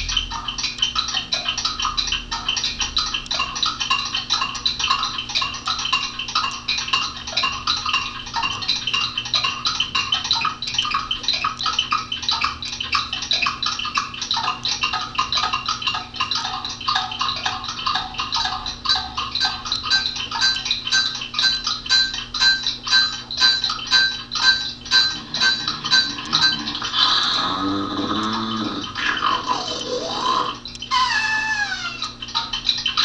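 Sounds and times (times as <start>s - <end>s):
many clocks ticking: 0.0s - 33.0s.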